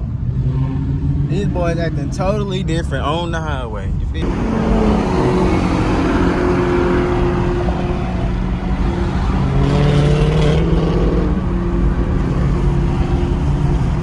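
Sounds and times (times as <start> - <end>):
car accelerating: 0.0 - 14.0
car engines running: 0.0 - 14.0
road noise: 0.0 - 14.0.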